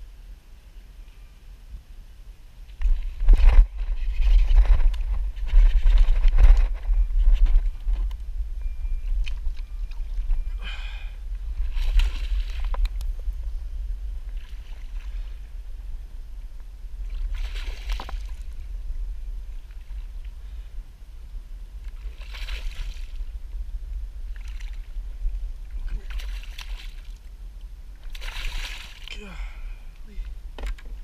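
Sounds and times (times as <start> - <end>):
low rumble: 0.0 - 31.0.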